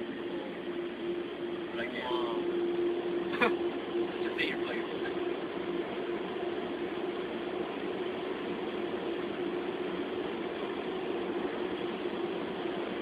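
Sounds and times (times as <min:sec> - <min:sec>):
car wash machinery hum: 0:00.0 - 0:13.0.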